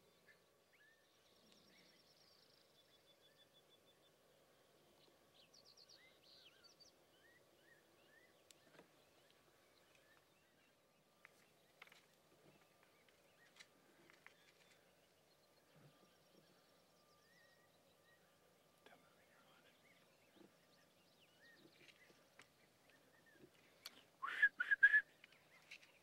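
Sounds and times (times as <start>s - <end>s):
songbird chirps and trills: 0.0s - 26.0s.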